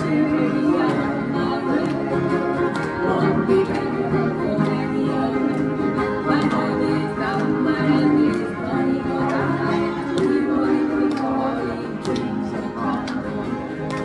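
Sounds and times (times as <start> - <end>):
acoustic guitars strumming calypso: 0.0 - 14.0.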